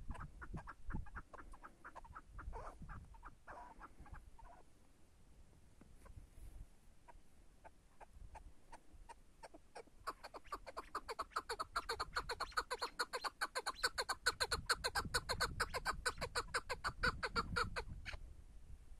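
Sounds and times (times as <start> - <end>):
partridge chuckling calls: 0.0 - 4.6, 7.1 - 18.2.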